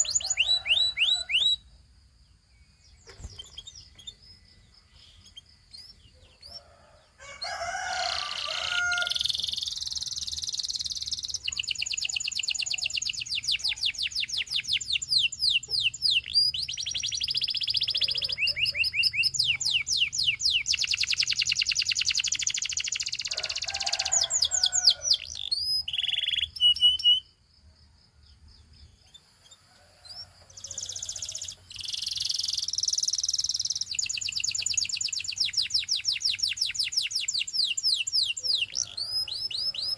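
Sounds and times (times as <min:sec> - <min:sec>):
canary singing trills: 0:00.0 - 0:01.7, 0:02.3 - 0:27.4, 0:28.4 - 0:39.9.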